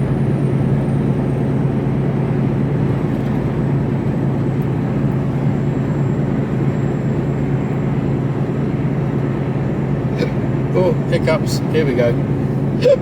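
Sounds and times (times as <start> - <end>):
lorry engine hum: 0.0 - 13.0.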